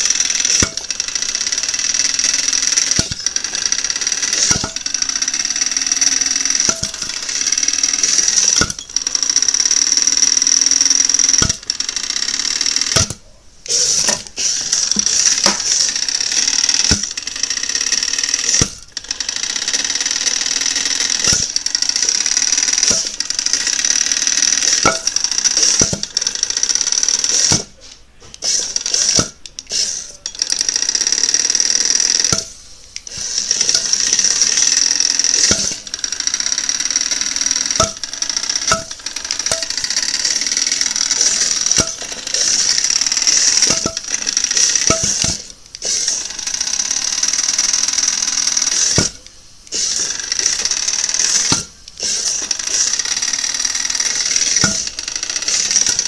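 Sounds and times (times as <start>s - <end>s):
small electric motors whirring: 0.0s - 56.0s.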